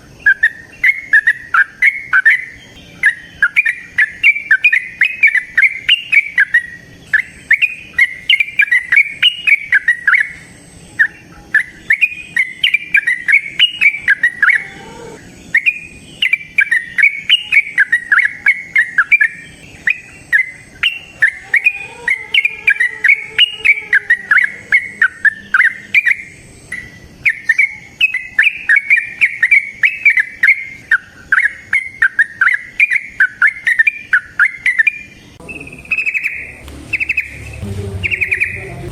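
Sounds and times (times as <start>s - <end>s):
bulbul singing bubbly phrases: 3.0s - 38.9s.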